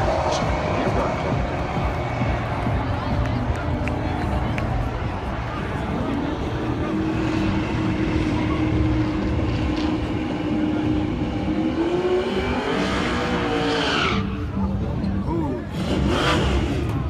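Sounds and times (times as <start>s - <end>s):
racing car engine droning: 0.0s - 17.0s.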